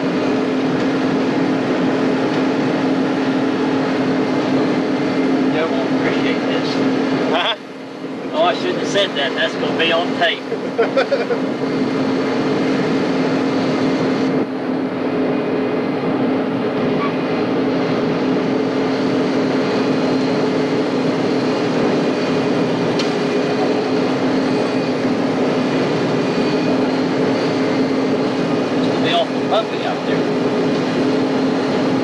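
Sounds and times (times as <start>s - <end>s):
diesel engine drone: 0.0s - 32.0s.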